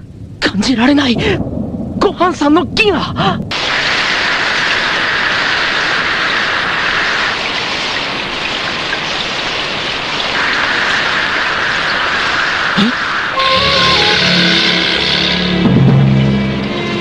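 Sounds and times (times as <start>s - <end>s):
heavy rain falling: 0.1s - 17.0s.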